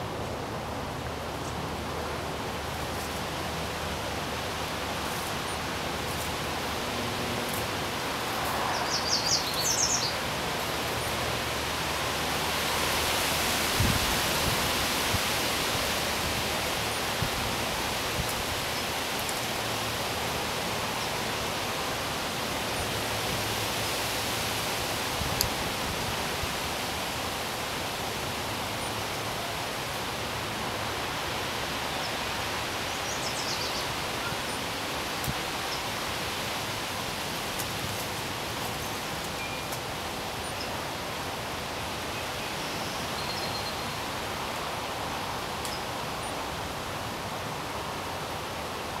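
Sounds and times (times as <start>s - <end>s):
wind rustling leaves: 0.0s - 49.0s.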